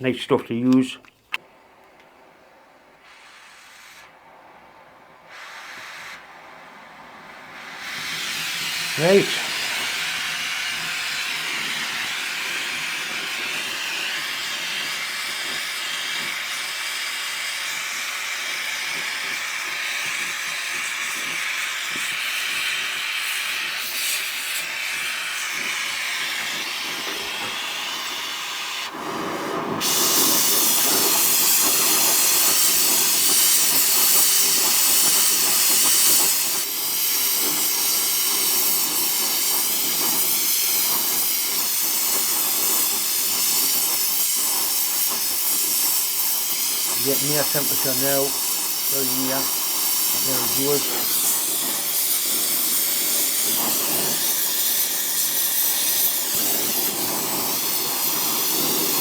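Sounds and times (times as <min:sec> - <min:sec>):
gas torch flame hissing: 0:01.3 - 0:59.0.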